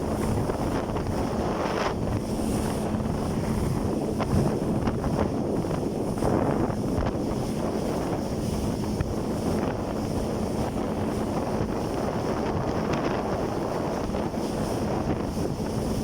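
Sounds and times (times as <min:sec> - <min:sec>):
faint jet ski engine hum: 0:00.0 - 0:16.0
rushing water: 0:00.0 - 0:16.0
wind buffeting microphone: 0:00.0 - 0:16.0.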